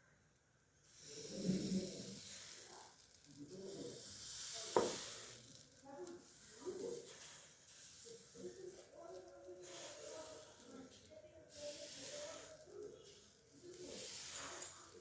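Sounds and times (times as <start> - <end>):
hot clay pan sizzling: 0.8 - 15.0.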